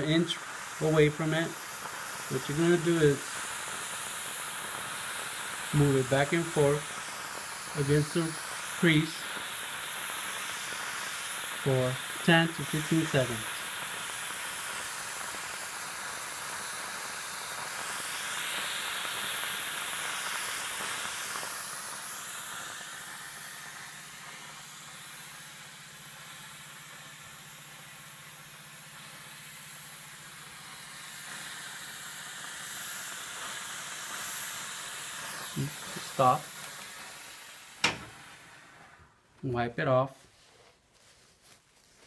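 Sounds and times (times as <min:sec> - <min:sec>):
garment steamer hissing: 0:00.0 - 0:42.0.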